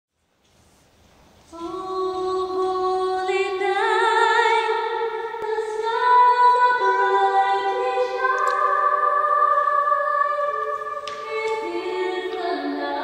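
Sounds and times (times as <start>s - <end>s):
woman singing long held notes: 1.5s - 13.0s.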